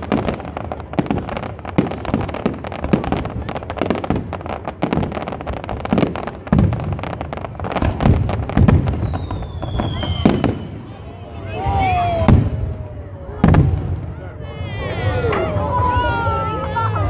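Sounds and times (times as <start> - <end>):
heavy firework booms: 0.0 - 11.0, 11.6 - 14.4
firework crackling: 0.0 - 16.7.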